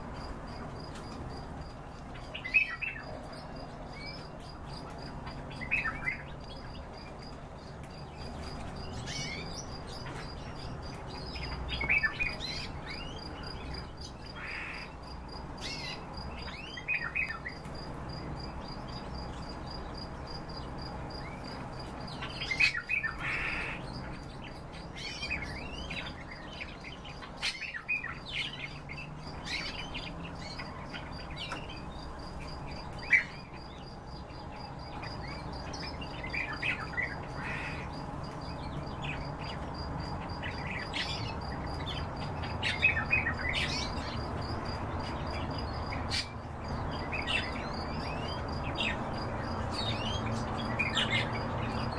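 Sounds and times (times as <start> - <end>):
birds chirping and calling: 0.0 - 51.9.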